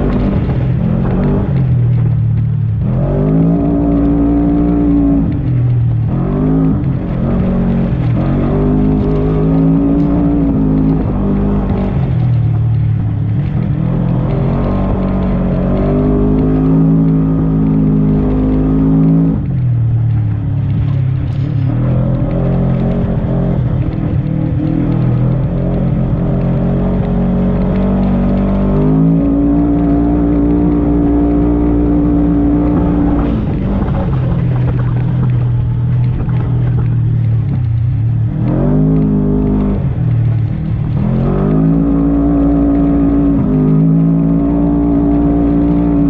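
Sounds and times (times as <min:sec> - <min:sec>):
utility vehicle engine revving: 0:00.0 - 0:46.0.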